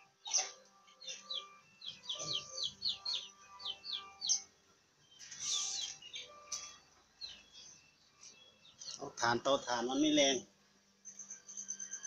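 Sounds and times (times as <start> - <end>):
birds chirping falling notes: 0.0 - 9.7
faint steady tones: 0.0 - 12.0.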